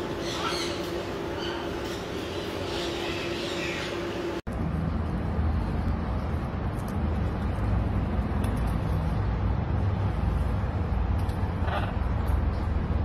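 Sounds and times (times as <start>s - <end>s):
low urban rumble: 0.0s - 13.0s.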